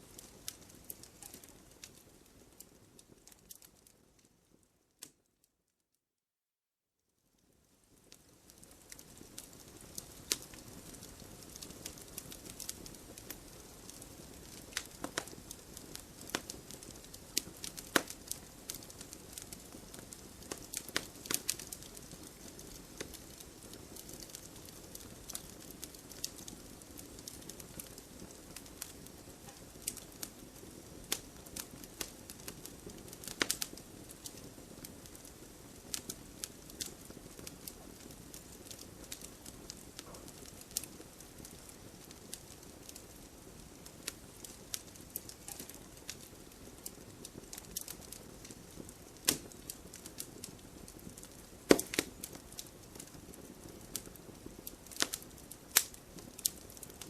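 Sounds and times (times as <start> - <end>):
wood crackling and popping: 0.0 - 5.3, 7.4 - 57.0
hiss of flames: 8.2 - 57.0.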